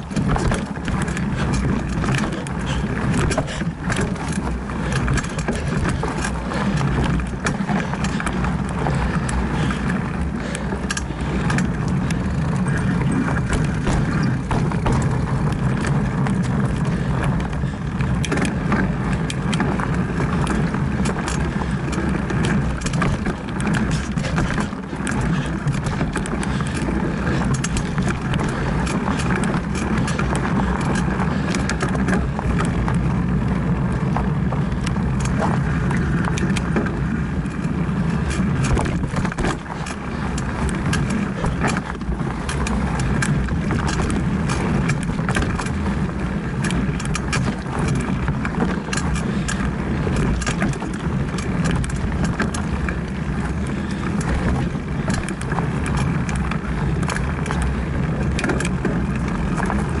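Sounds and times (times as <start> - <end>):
bike tyres rumbling on dirt: 0.0 - 60.0
rattling clicks from bike: 0.0 - 60.0.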